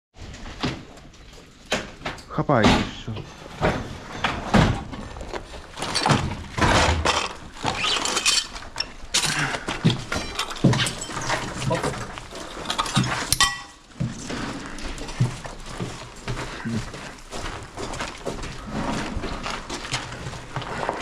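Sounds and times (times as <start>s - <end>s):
hard objects clattering: 0.2s - 21.0s.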